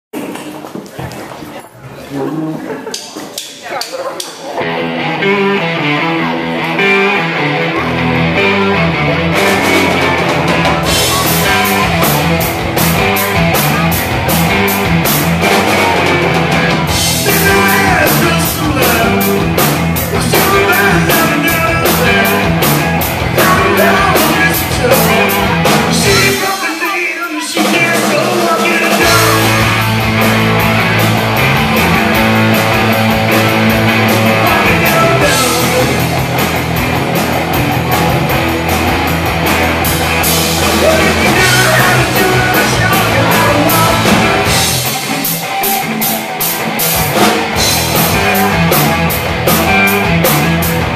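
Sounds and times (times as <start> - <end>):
bass guitar: 4.4 - 50.9
electric guitar: 4.4 - 50.9
drum kit with cymbals: 9.4 - 50.9.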